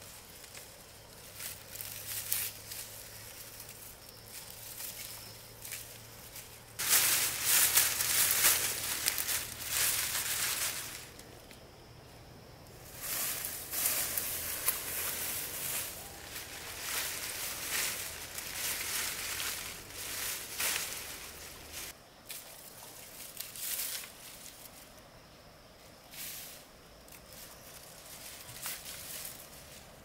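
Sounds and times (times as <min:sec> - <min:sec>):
leaves rustling: 0:00.0 - 0:25.2, 0:25.8 - 0:30.0.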